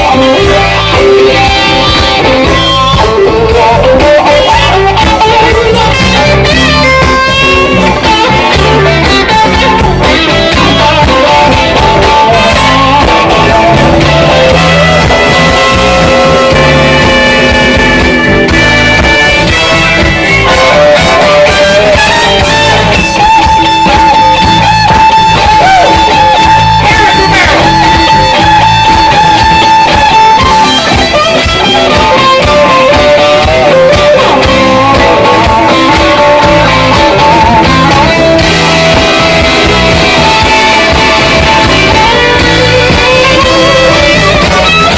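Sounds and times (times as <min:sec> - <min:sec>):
bass and drum groove: 0:00.0 - 0:44.9
electric guitar lead: 0:00.0 - 0:44.9.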